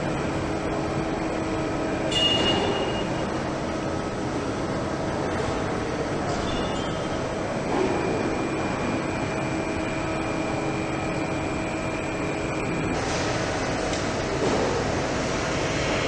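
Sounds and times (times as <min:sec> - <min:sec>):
production-line machinery humming: 0:00.0 - 0:16.0.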